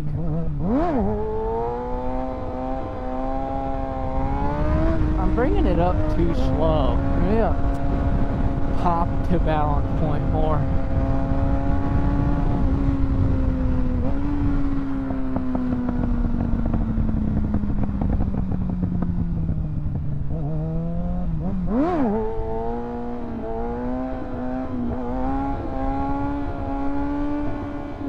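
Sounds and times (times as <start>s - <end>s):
motorcycle engine revving: 0.0s - 28.0s
wind noise rumbling: 0.0s - 28.0s.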